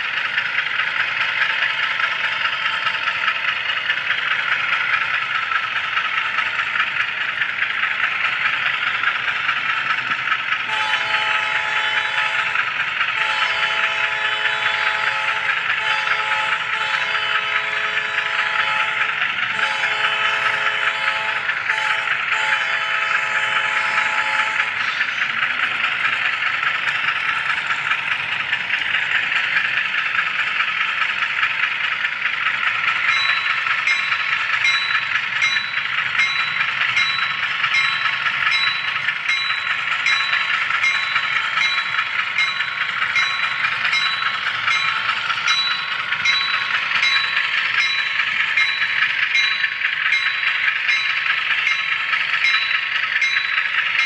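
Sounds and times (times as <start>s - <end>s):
model train wheels on rails: 0.0s - 54.0s.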